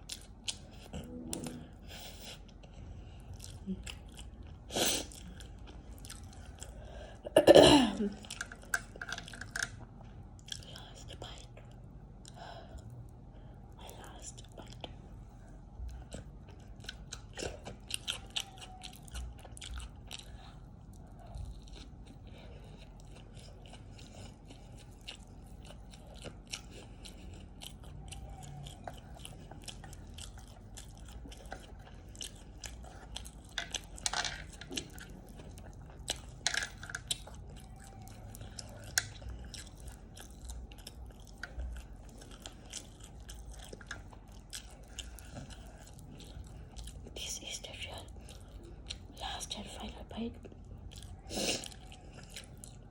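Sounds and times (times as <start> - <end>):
person chewing with wet clicks: 0.0 - 7.3, 8.0 - 52.9.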